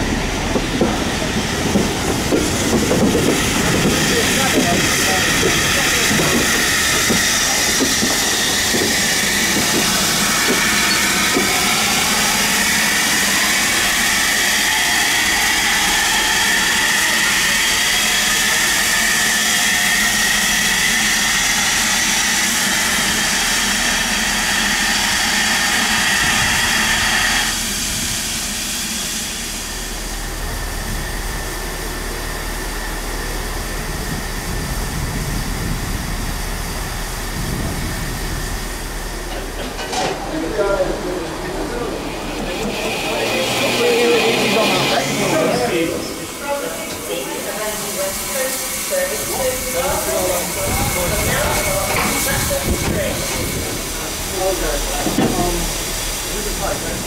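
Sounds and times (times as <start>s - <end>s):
locomotive hiss: 0.0s - 57.0s.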